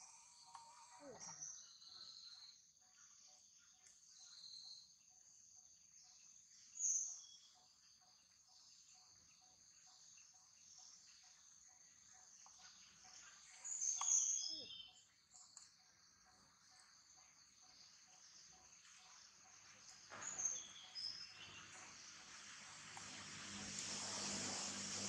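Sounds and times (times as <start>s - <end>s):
chorus of insects droning: 0.0s - 25.0s.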